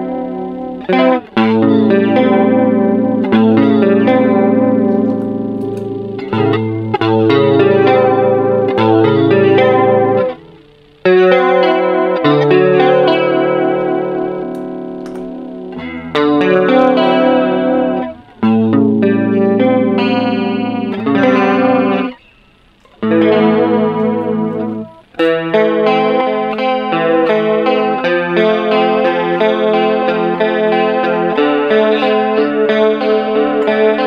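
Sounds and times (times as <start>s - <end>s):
electric guitar with chorus effect: 0.0s - 34.0s.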